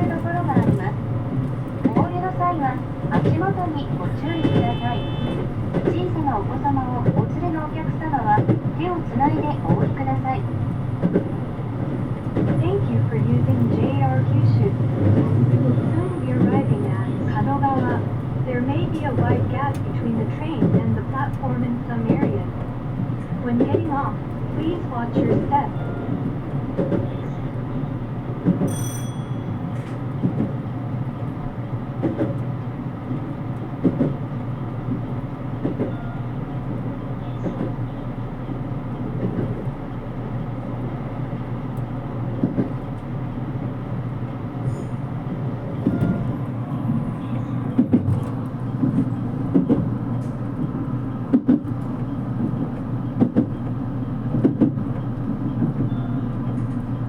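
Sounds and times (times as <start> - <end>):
knocks of train running: 0.0 - 57.0
train wheels rumbling on rail: 0.0 - 57.0.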